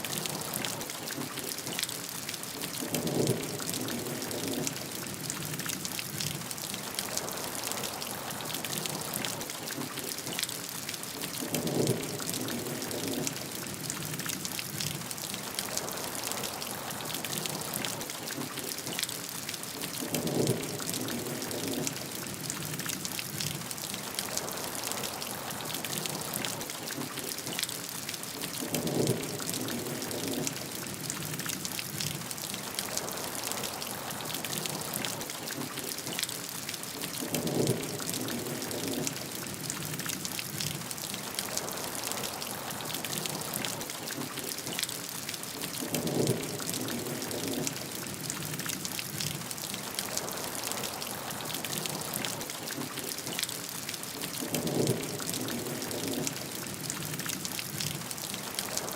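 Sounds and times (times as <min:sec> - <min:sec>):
heavy rain patter: 0:00.0 - 0:58.9.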